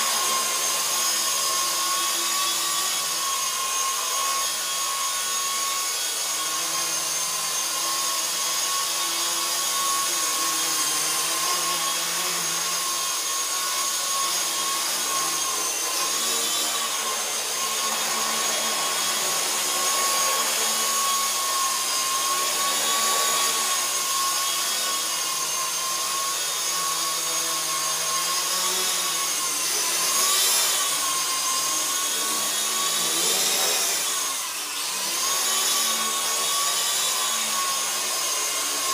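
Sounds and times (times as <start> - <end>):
toy helicopter motors whining: 0.0 - 38.9.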